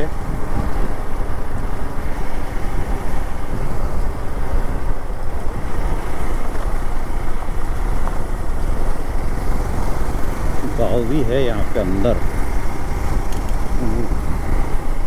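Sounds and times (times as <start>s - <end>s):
motorcycle engine running: 0.0s - 15.0s
road and riding noise: 0.0s - 15.0s.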